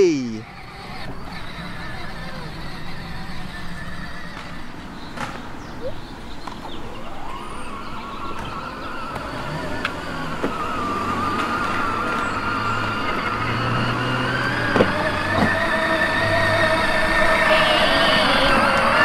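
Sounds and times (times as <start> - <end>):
toy car electric motor whining: 0.4 - 4.8, 6.8 - 19.0.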